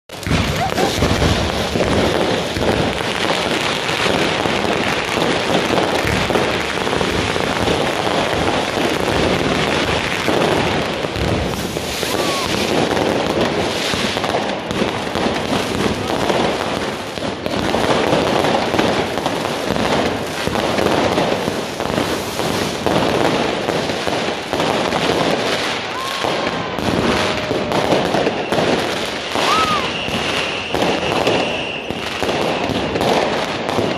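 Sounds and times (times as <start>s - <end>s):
fireworks crackling and banging: 0.0s - 33.9s
fireworks whistling: 0.1s - 33.9s.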